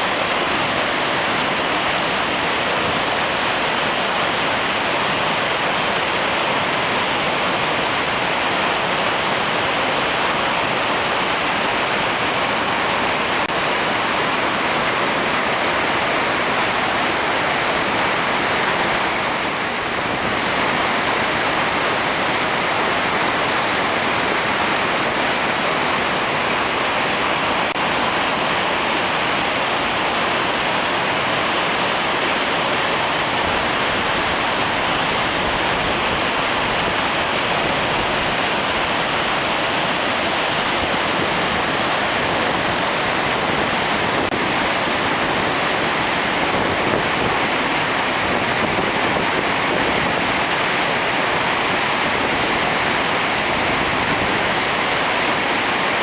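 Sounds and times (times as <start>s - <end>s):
waterfall and rapids roaring: 0.0s - 56.0s.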